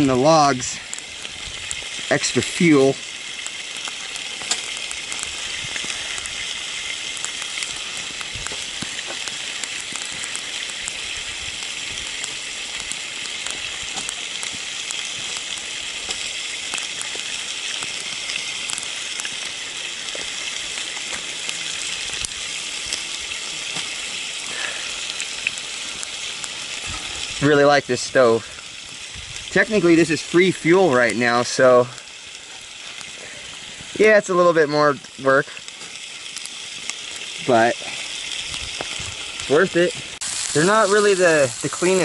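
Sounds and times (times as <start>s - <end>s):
fish sizzling in a pan: 0.0s - 42.0s.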